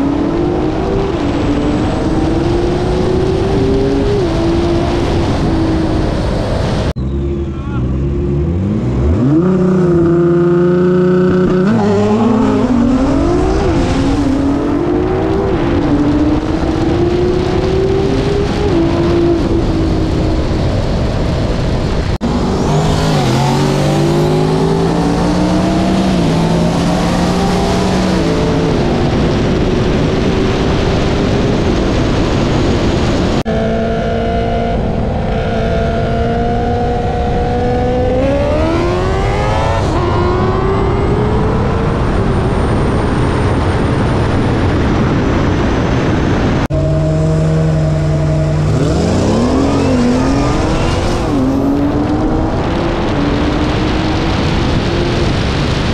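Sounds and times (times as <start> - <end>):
car engine revving through gears: 0.0 - 6.4, 8.0 - 20.6, 22.0 - 31.1, 33.4 - 43.2, 46.6 - 55.9.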